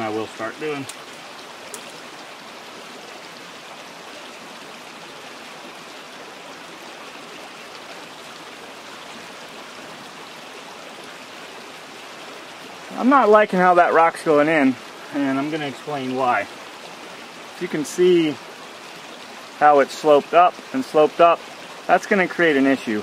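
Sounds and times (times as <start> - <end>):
steady outdoor rushing hiss: 0.0 - 23.0.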